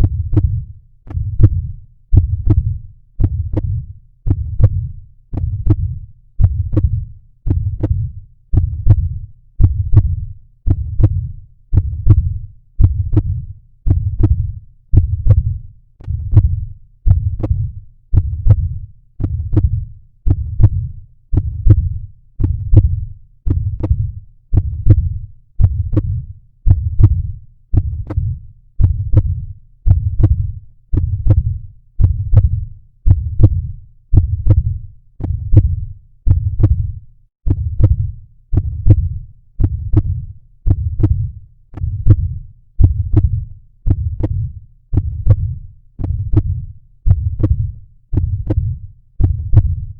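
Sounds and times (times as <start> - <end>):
heartbeat lub-dub: 0.0 - 49.9.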